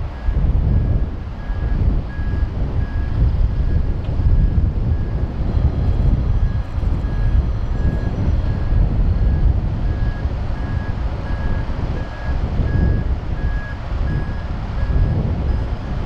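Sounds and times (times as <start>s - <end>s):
steady low rumble: 0.0s - 16.0s
reversing alarm beeps: 0.2s - 16.0s.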